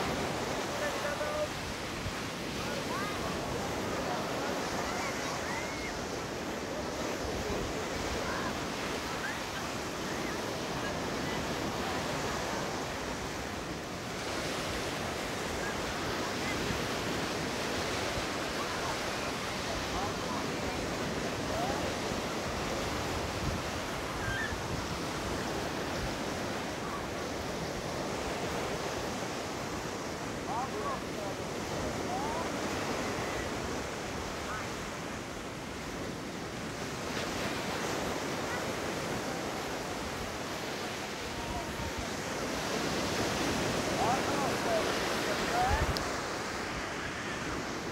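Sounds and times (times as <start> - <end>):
faint distant voices: 0.0 - 36.7, 37.4 - 47.9
sea surf breaking on shore: 0.0 - 47.9
wind: 0.0 - 47.9.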